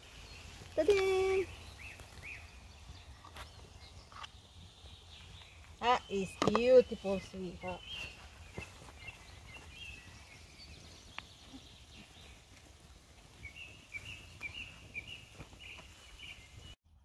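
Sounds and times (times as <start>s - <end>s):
small bird chirping: 0.0s - 16.8s.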